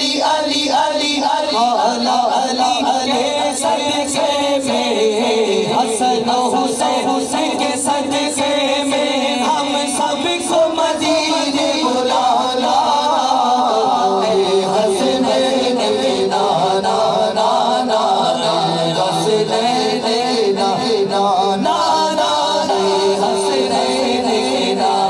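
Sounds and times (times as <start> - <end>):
men singing devotional song: 0.0 - 25.0.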